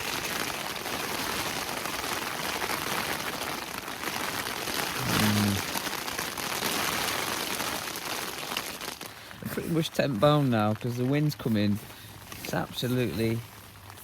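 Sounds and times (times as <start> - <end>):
heavy rain on tent: 0.0 - 14.0.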